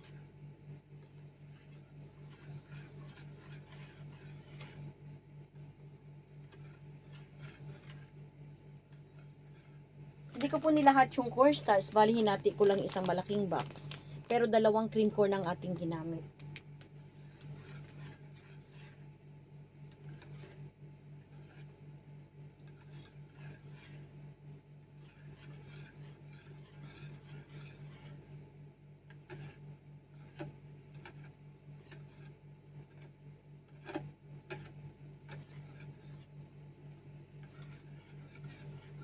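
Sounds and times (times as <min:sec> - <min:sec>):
spoon stirring in plastic bowl: 0:00.0 - 0:39.0
steady low hum: 0:00.0 - 0:39.0.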